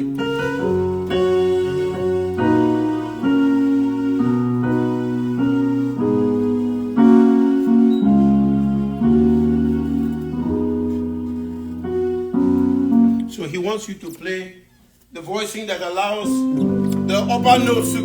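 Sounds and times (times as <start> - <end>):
electronic keyboard piano chords: 0.0 - 13.8, 16.0 - 18.0.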